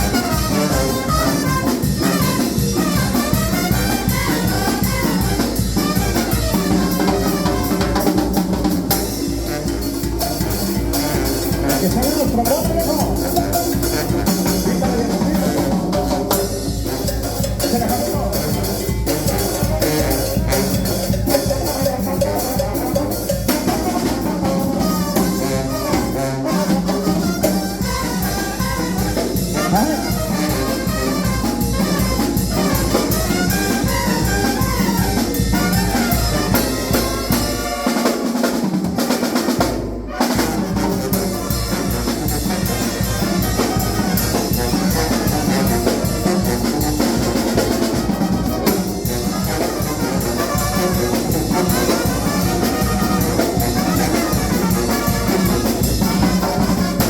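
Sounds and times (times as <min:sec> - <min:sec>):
brass band music with drums: 0:00.0 - 0:57.0.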